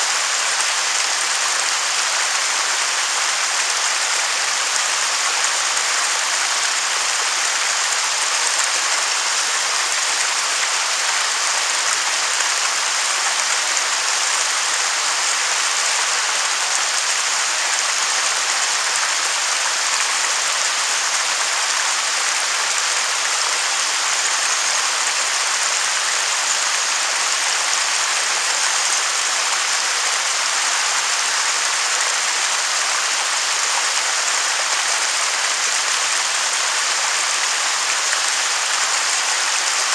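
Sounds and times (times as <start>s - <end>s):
waterfall hissing: 0.0s - 39.9s.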